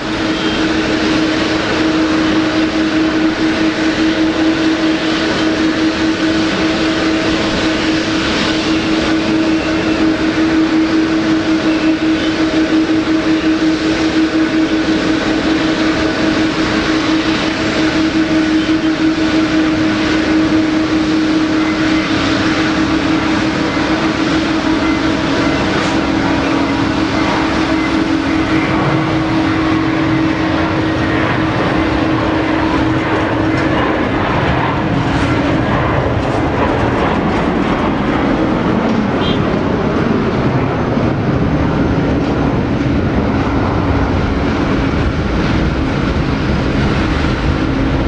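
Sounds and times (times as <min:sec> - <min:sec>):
jet engines running: 0:00.0 - 0:48.0.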